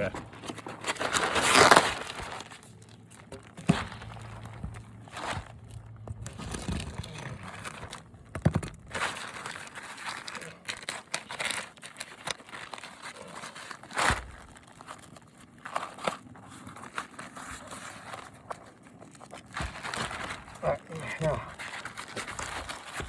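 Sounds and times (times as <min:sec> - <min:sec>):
plastic tarp crinkling and rustling: 0:00.0 - 0:23.0.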